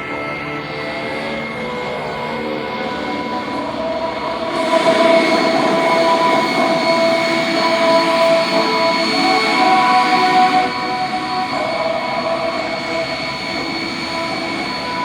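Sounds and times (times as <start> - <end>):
jet engine rushing and whining: 0.0 - 15.0.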